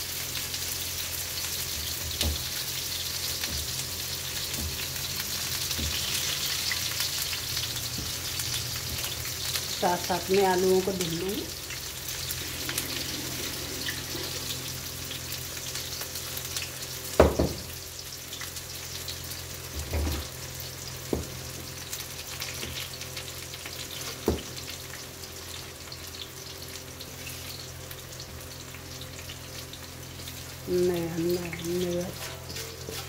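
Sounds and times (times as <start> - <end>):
onion sizzling in hot oil: 0.0 - 33.0.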